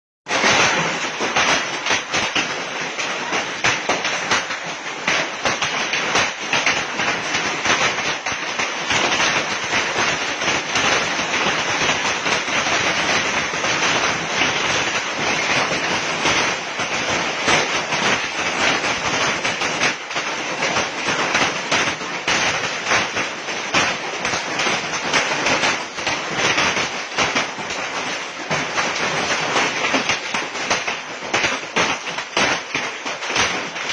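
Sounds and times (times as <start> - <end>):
hailstones clattering on hard surfaces: 0.3 - 33.9.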